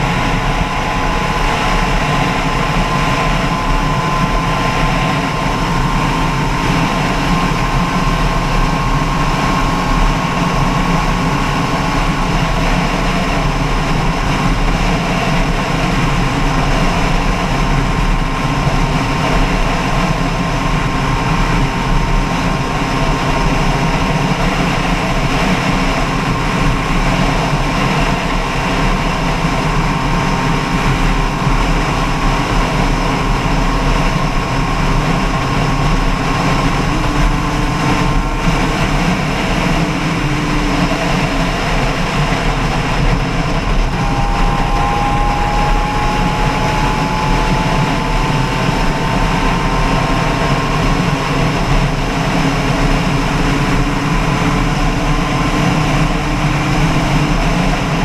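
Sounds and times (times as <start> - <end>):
engine humming with thin whine: 0.0 - 58.0.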